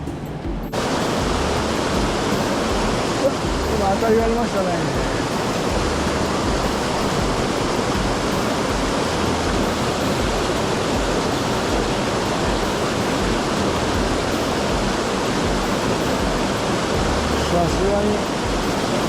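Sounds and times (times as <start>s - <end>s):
rushing mountain stream: 0.0s - 19.0s.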